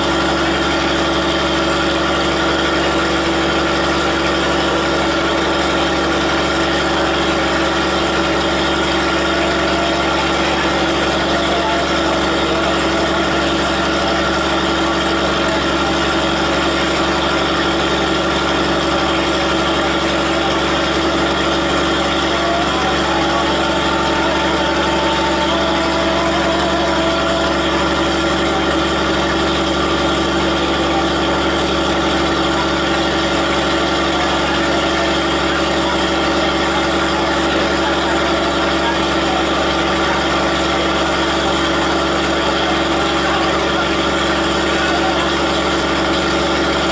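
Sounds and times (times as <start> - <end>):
diesel train engine idling: 0.0 - 46.9.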